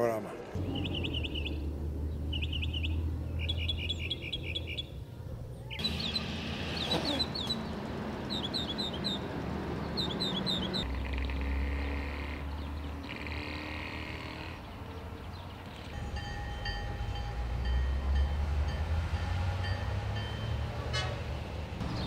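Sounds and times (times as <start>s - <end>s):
outdoor background noise: 0.0s - 22.0s
birds chirping: 0.5s - 17.9s, 21.4s - 22.0s.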